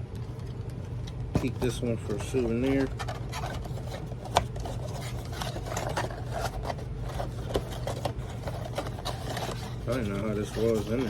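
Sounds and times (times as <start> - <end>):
steady low hum: 0.0 - 11.0
cardboard packs rustling: 1.4 - 11.0.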